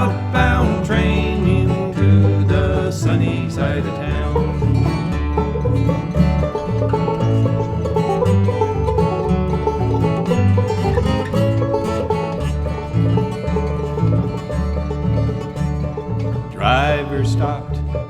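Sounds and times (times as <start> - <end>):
plucked string instruments: 0.0 - 18.0
stepping bass line: 0.0 - 18.0.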